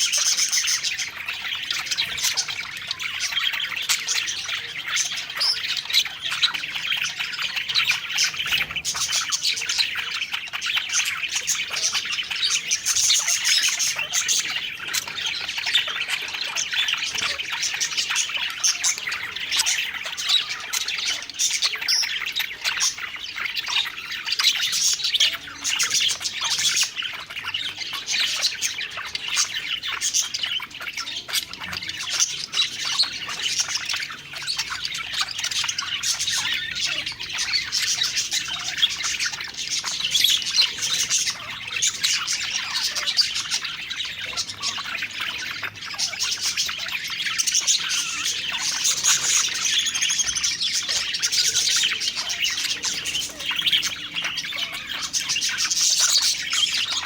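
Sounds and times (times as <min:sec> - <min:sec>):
budgerigars chattering: 0:00.0 - 0:57.0.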